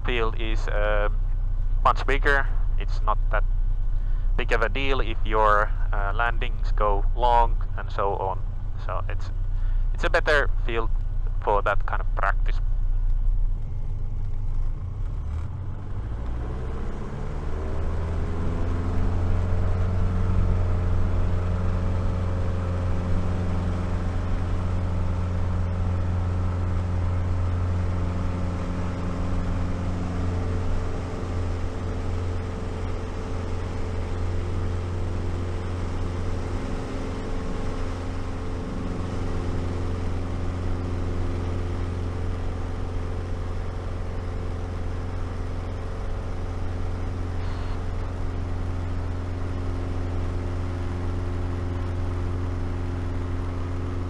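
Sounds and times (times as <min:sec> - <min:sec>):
propeller aircraft engine droning: 0:00.0 - 0:54.0.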